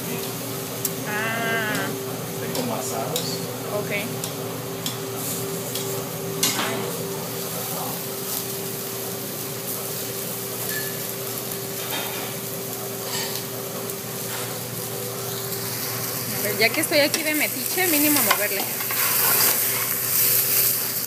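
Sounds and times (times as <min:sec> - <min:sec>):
cactus sizzling on griddle: 0:00.0 - 0:21.0
kitchen hum: 0:00.0 - 0:21.0.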